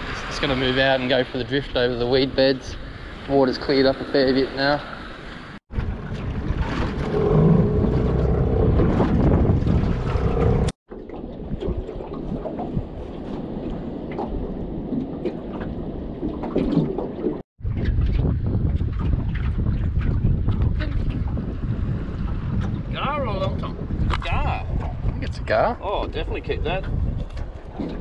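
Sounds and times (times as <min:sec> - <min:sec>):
wind buffeting microphone: 0:05.2 - 0:28.0.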